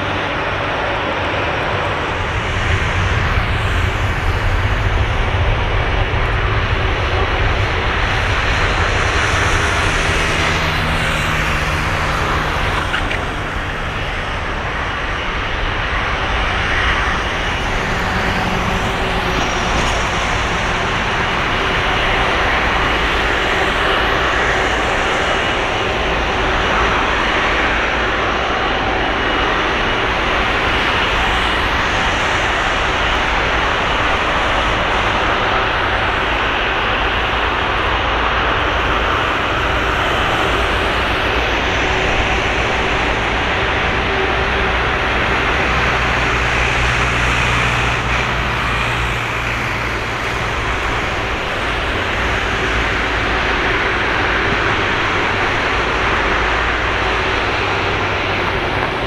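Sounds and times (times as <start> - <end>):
jet engine roar and whine: 0.0 - 59.0.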